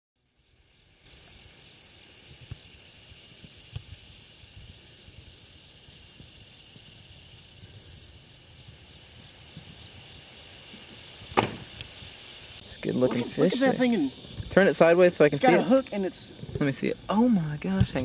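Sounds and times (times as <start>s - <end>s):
insects trilling: 0.2s - 18.0s.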